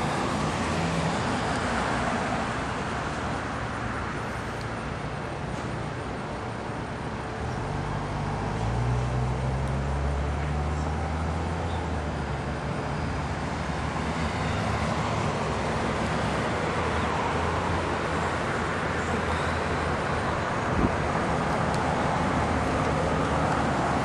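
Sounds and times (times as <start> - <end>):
distant engines rumbling: 0.0 - 24.0
low engine hum: 0.0 - 24.0.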